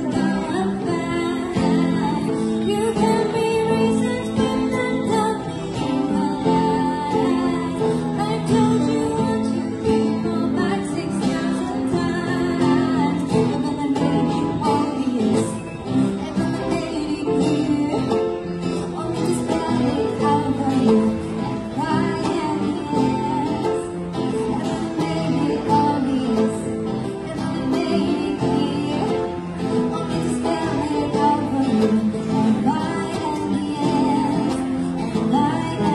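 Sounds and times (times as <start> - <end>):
acoustic guitar: 0.0 - 35.9
woman singing into microphone: 0.0 - 35.9.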